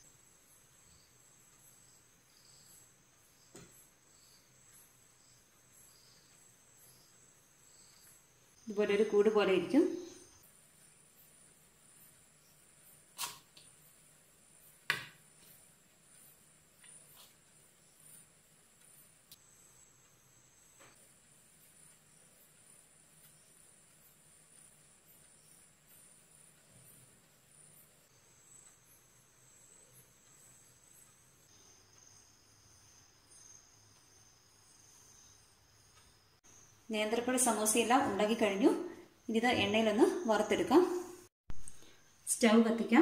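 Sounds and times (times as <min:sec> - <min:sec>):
crickets chirring: 0:00.0 - 0:43.0.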